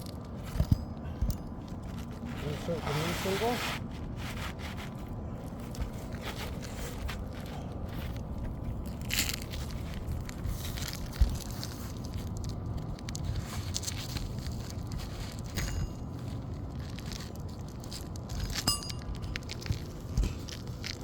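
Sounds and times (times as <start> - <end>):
asphalt shingle scraping: 0.0 - 21.0.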